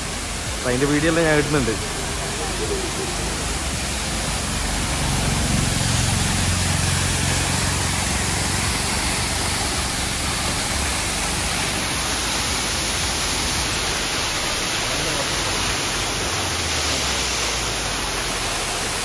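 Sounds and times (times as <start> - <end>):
low rumble: 0.0 - 16.1
waterfall roaring: 0.0 - 19.0.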